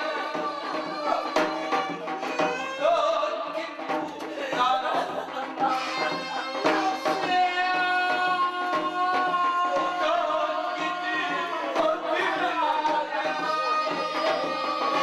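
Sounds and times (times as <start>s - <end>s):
regular drum strokes: 0.0s - 15.0s.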